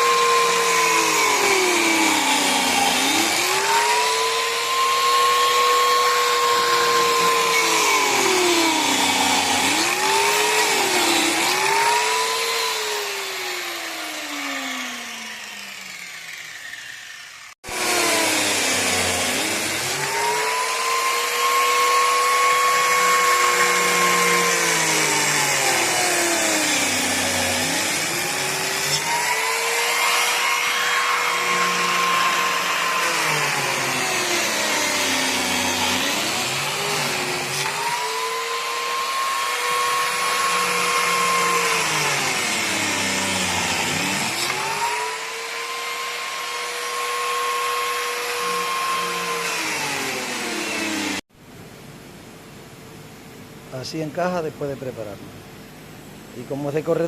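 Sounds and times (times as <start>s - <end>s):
power tool cutting wood: 0.0s - 51.3s.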